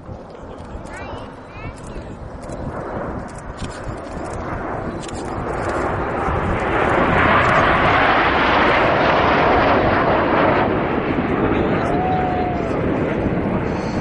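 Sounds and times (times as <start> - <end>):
jets flying past: 0.0 - 14.0.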